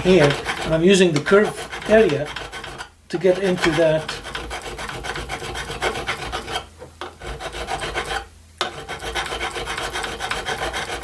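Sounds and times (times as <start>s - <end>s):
file rasping on metal: 0.0s - 11.0s.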